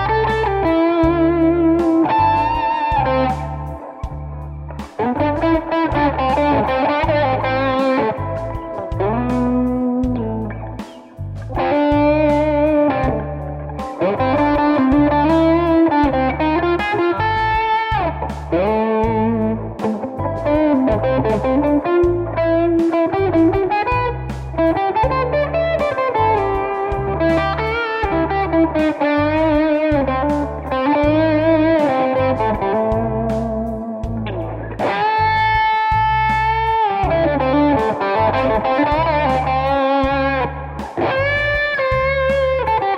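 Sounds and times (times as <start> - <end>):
electric guitar lead lines: 0.0 - 42.9
steady low beat: 0.0 - 42.9.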